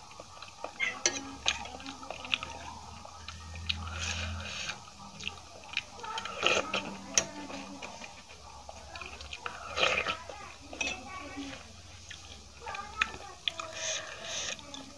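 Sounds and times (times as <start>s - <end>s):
low steady hum: 0.0s - 13.8s
chewing and wet mouth sounds: 0.0s - 14.9s.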